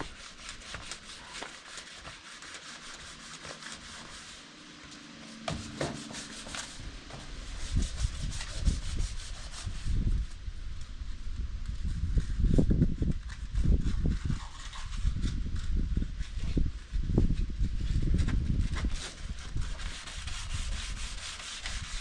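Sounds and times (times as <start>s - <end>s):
sandpaper rubbing: 0.0s - 10.4s, 11.8s - 16.6s, 17.8s - 22.0s.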